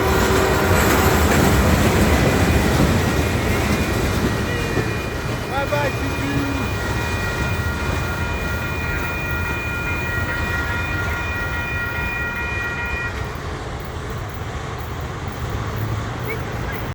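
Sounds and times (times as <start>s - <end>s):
freight train wheels rumbling on rail: 0.0s - 16.9s.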